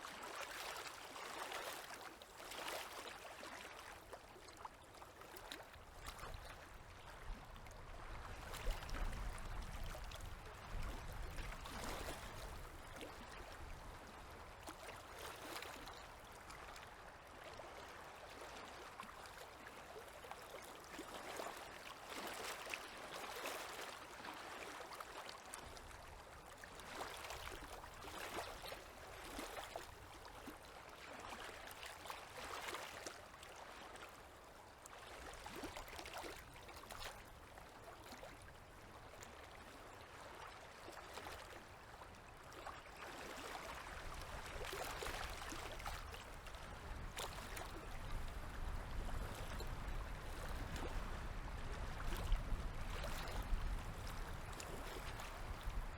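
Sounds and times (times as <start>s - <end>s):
small waves lapping: 0.0s - 55.9s.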